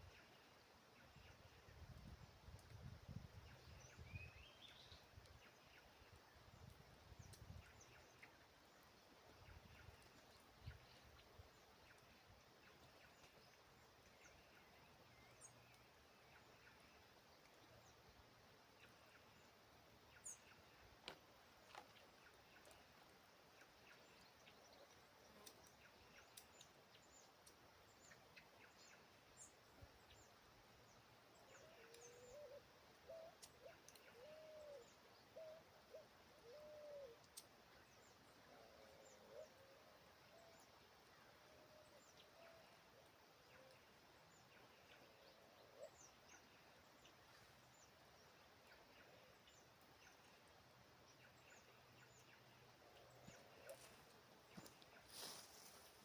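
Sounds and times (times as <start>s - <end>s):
birds chirping: 3.3s - 56.0s.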